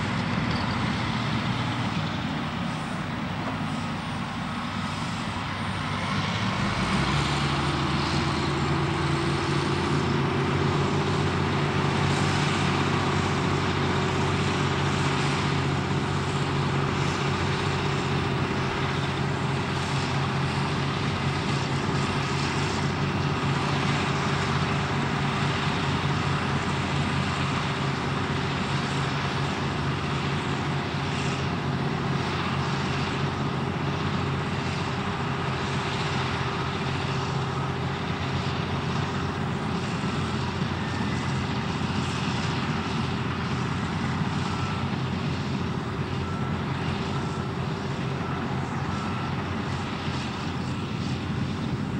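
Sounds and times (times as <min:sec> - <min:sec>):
deep diesel engine drone: 0:00.0 - 0:51.9.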